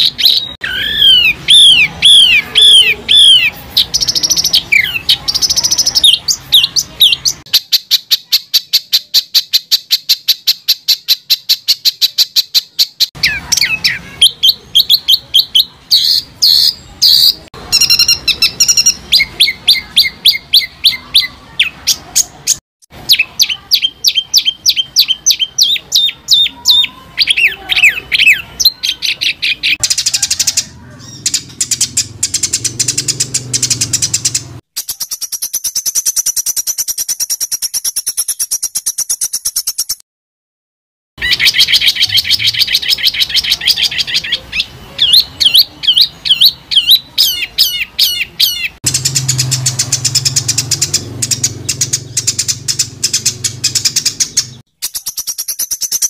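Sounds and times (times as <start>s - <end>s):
songbird harsh trills: 0.0s - 40.0s, 41.2s - 56.0s.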